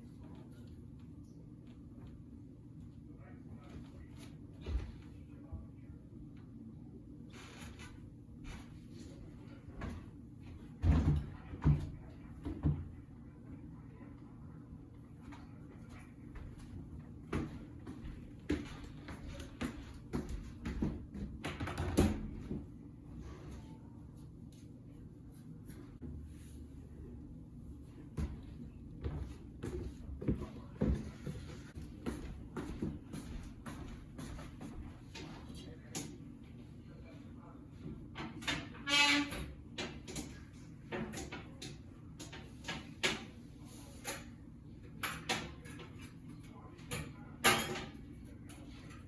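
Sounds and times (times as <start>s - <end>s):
low room hum: 0.0s - 49.0s.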